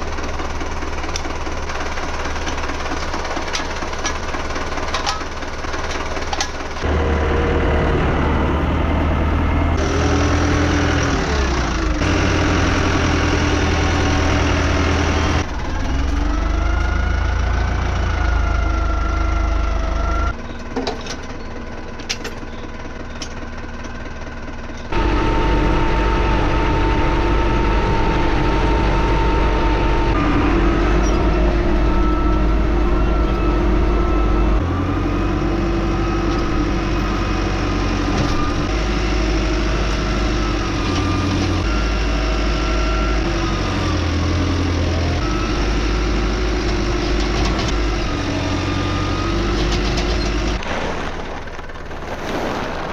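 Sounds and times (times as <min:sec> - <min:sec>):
diesel tractor engines running: 0:00.0 - 0:52.9.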